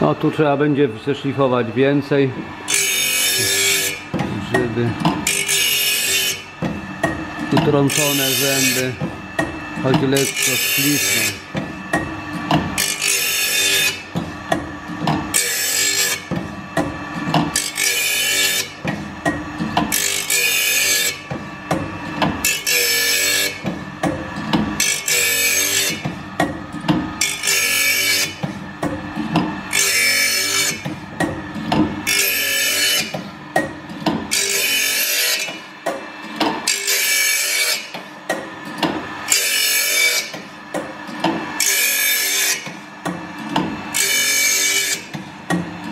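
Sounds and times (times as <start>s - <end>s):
grinding wheel grinding saw teeth: 1.4s - 33.4s, 34.0s - 42.8s, 43.4s - 45.9s.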